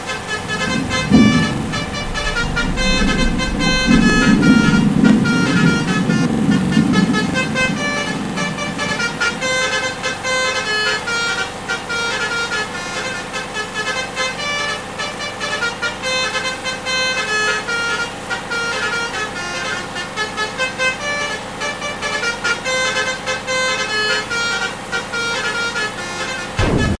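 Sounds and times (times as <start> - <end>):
low engine rumble: 0.0 - 27.0
musical air horns melody: 0.0 - 27.0.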